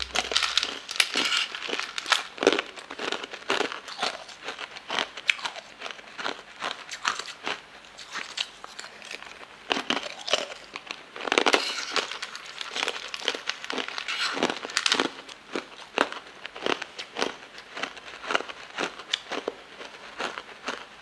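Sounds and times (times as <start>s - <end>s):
hard candy crunching: 0.0s - 20.9s.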